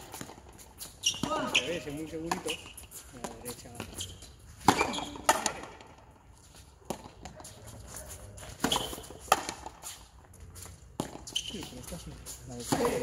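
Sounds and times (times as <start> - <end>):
ball striking rackets and wall: 0.0 - 6.1, 6.8 - 10.0, 10.9 - 12.0, 12.6 - 13.0.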